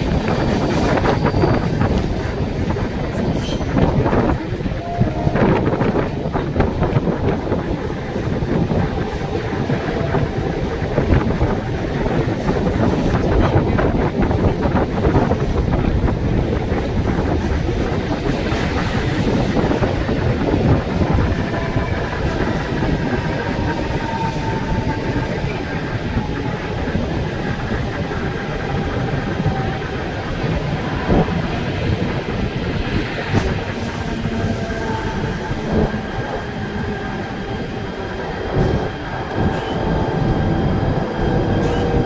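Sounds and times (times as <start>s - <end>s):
passing train alongside: 0.0s - 42.0s
train wheels rumbling on track: 0.0s - 42.0s
wind buffeting microphone: 0.0s - 42.0s.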